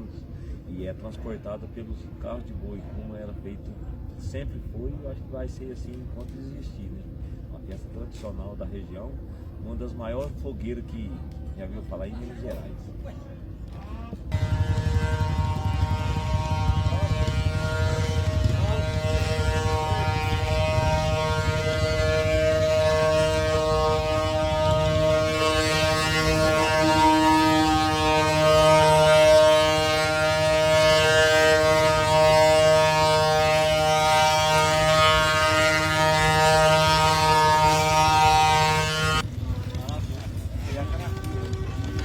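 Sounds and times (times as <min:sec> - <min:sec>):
cart low rumble: 0:00.0 - 0:42.0.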